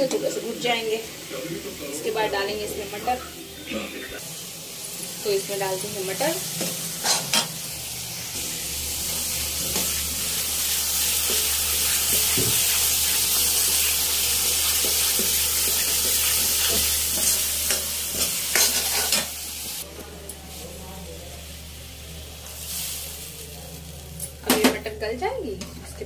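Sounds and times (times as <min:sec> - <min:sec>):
food sizzling in pan: 0:00.0 - 0:25.6.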